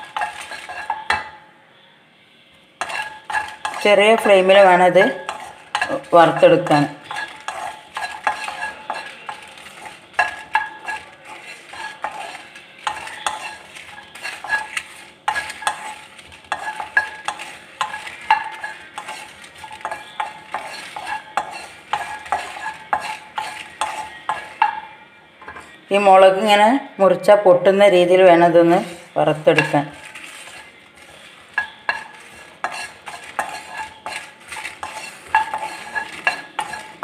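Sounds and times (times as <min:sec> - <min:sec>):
wooden spatula knocking and scraping pan: 0:00.0 - 0:01.4, 0:02.8 - 0:25.7, 0:28.6 - 0:37.0.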